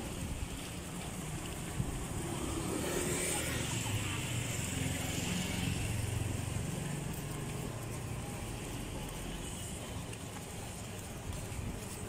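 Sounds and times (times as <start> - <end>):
background traffic hum: 0.0 - 12.0.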